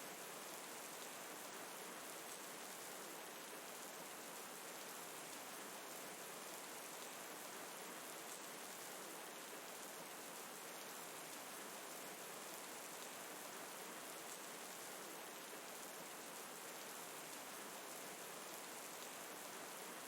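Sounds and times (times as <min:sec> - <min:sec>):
soft steady rain: 0:00.0 - 0:20.0.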